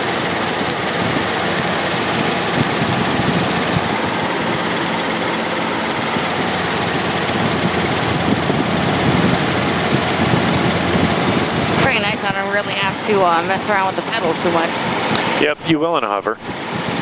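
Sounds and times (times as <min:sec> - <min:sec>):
helicopter engine and rotor noise: 0:00.0 - 0:17.0.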